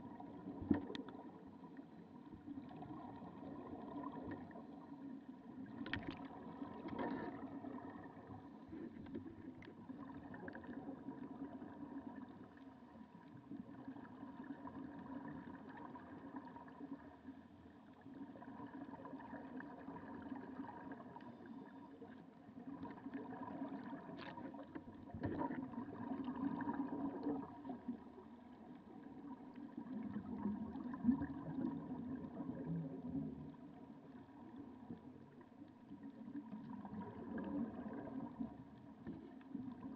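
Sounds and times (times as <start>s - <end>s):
gurgling diver bubbles: 0.0s - 17.3s, 17.9s - 39.9s
steady low underwater hum: 0.0s - 39.9s.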